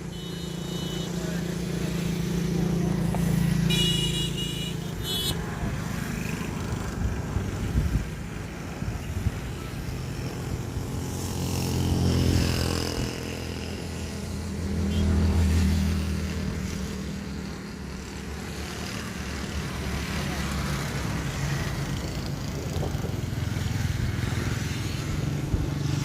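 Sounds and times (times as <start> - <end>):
road traffic hum: 0.0 - 26.0
vehicles passing close by: 0.0 - 26.0.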